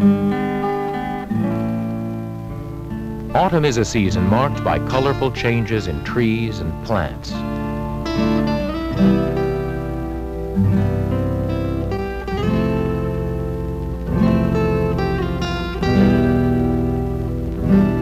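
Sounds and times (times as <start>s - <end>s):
strummed guitar music: 0.0s - 18.0s
steady low hum: 1.0s - 18.0s.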